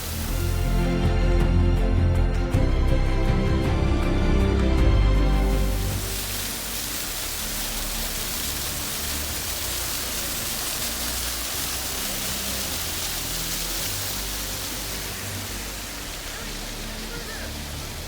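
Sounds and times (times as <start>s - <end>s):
waterfall rushing: 0.0s - 2.6s, 3.2s - 18.0s.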